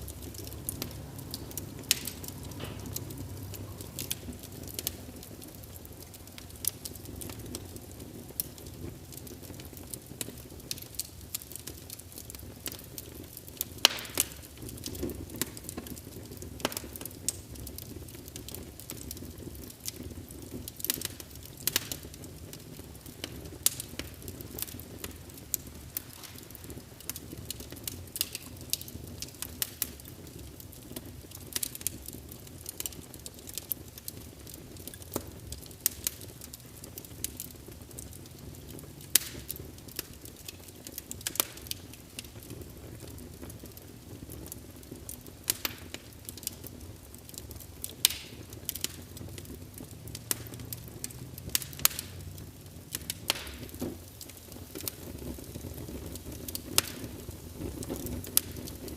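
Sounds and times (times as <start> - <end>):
log fire crackling and popping: 0.0 - 58.9.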